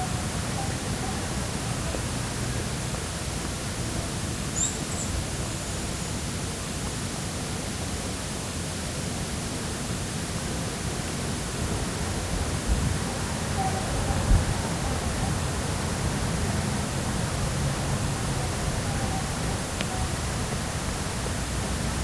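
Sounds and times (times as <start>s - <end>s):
urban traffic noise: 0.0s - 7.0s, 9.9s - 22.0s.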